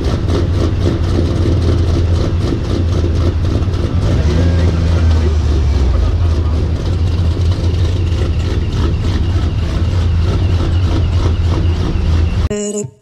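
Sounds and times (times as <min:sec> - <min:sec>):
car engine idling: 0:00.0 - 0:12.5.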